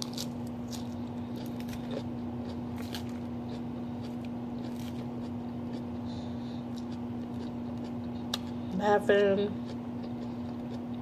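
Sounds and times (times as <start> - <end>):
person chewing food: 0.0 - 8.8, 9.6 - 11.0
low electrical hum: 0.0 - 11.0.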